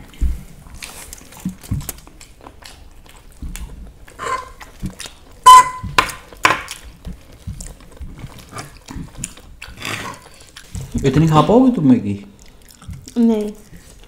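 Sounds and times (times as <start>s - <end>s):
eating noises: 0.0s - 5.4s, 6.2s - 14.0s.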